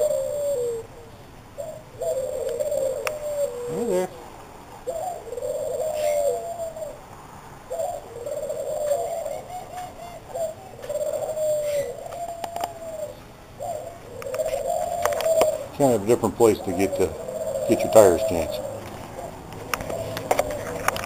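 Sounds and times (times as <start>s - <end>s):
faint bird chirps: 0.0s - 7.0s, 7.7s - 21.0s
dove cooing: 0.0s - 21.0s.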